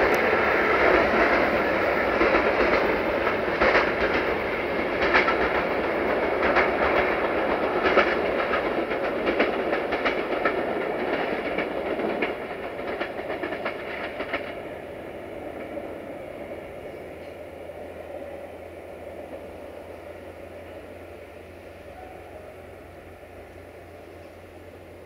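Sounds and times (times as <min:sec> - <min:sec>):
train wheels clicking over rail joints: 0:00.0 - 0:21.8
train rumble: 0:00.0 - 0:25.0.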